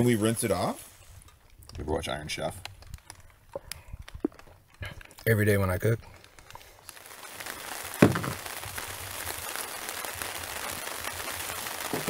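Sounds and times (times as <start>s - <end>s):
light rain hissing: 0.0s - 12.0s.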